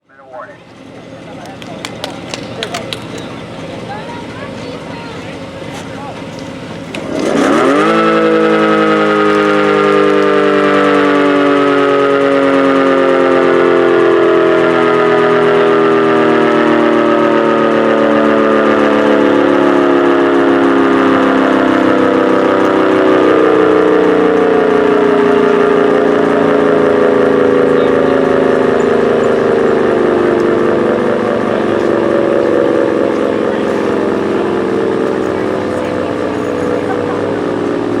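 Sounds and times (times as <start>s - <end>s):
mechanical siren falling in pitch: 6.8s - 38.0s.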